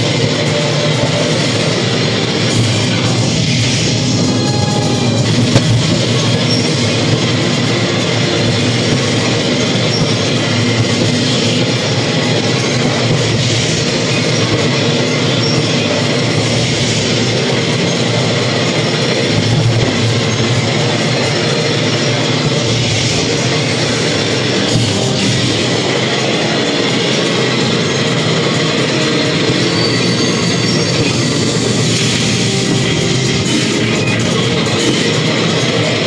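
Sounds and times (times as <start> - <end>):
music: 0.0 - 36.0.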